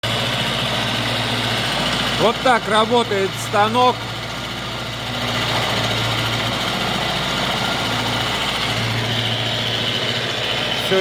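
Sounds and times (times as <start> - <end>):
high gear whine: 0.1 - 11.0
milling machine motor hum: 0.1 - 11.0.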